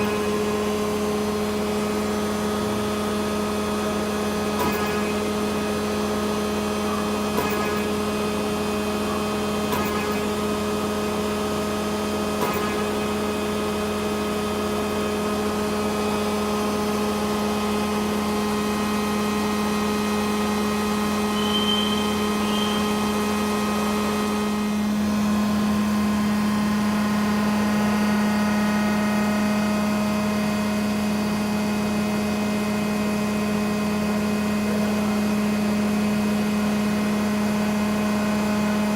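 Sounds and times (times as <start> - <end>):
hydraulic power unit humming: 0.0 - 38.9.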